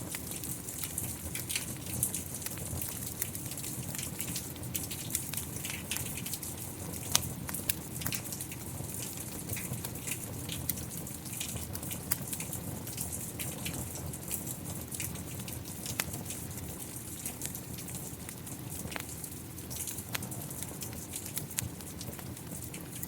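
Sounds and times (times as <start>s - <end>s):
rain falling: 0.0s - 23.0s
wood fire crackling: 0.0s - 23.0s.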